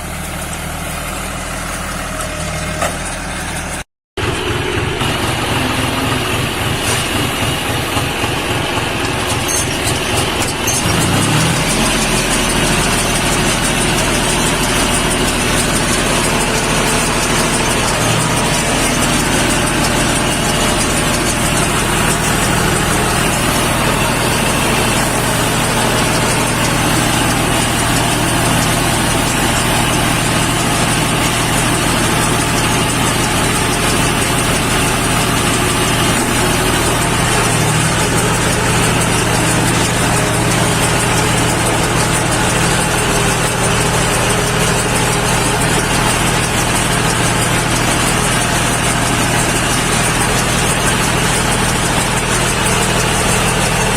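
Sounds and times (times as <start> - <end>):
tractor engine drone: 0.0 - 53.9.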